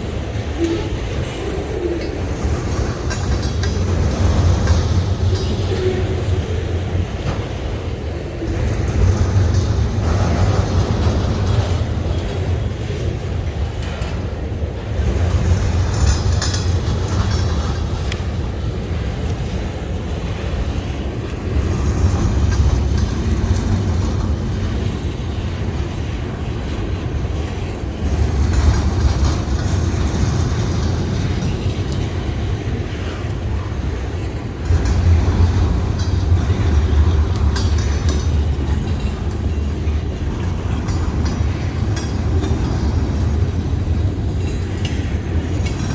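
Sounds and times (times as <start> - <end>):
freight train rumble: 0.0 - 45.9
wheels clicking on rails: 0.0 - 45.9.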